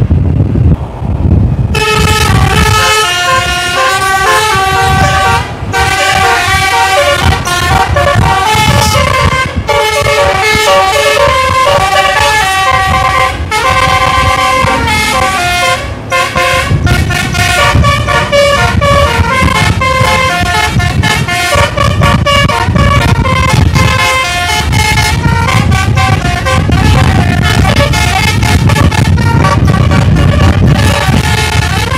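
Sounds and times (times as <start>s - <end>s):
low rumble: 0.0s - 31.9s
multi-tone bus horn playing a tune: 1.7s - 31.9s.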